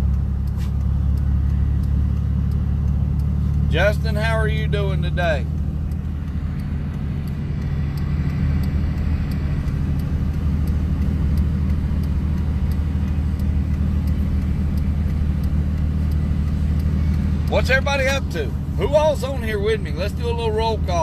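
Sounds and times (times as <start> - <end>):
faint ticking: 0.0 - 21.0
vehicle engine and road noise: 0.0 - 21.0.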